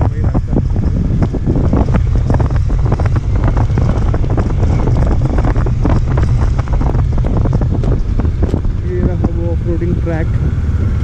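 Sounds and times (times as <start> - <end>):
knocks and rattles: 0.0 - 10.1
wind buffeting microphone: 0.0 - 11.0.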